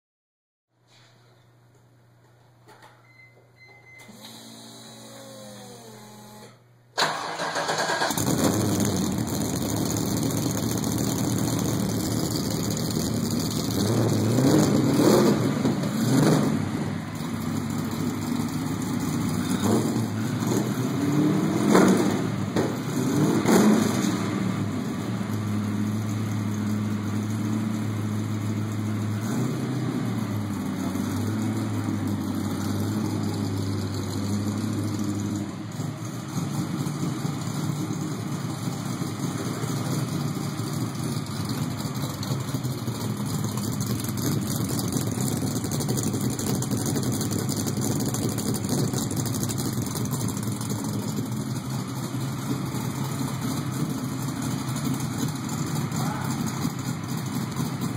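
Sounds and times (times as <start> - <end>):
engine throttle blips: 3.7 - 57.9
car engine cranking and idling: 4.2 - 57.9.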